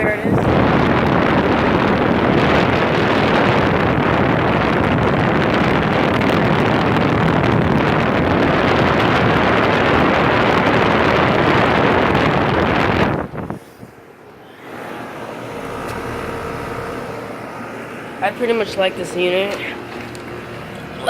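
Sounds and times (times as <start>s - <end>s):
air conditioner fan blowing: 0.0s - 21.0s.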